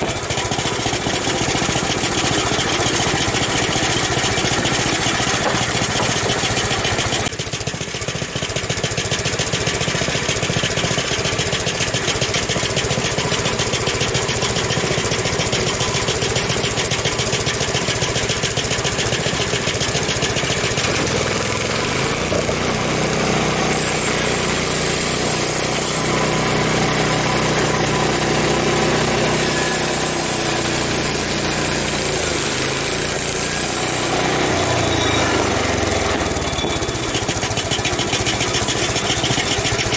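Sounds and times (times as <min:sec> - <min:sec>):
bandsaw sawmill engine cutting log: 0:00.0 - 0:39.9.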